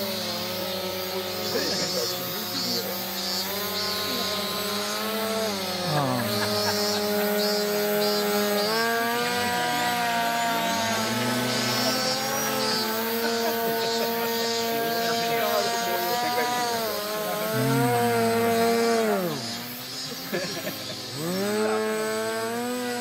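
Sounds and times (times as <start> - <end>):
electric motor and propeller whining: 0.0 - 23.0.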